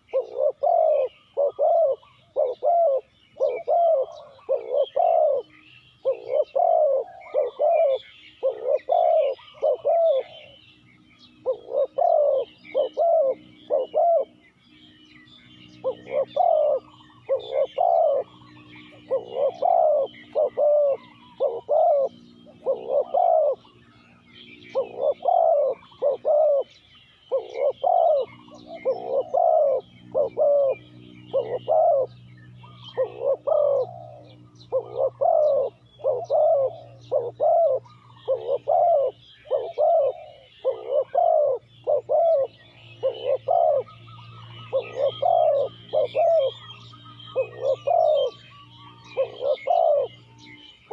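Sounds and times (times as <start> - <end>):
dove cooing: 0.0 - 14.5, 15.7 - 50.9
small birds chirping: 0.0 - 50.9.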